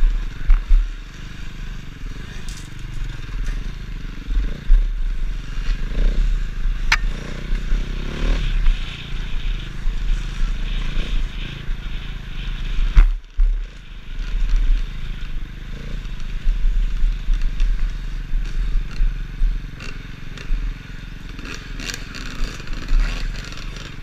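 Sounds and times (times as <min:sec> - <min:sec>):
knocks and rattles on rough trail: 0:00.0 - 0:24.0
motorcycle engine revving: 0:00.0 - 0:24.0.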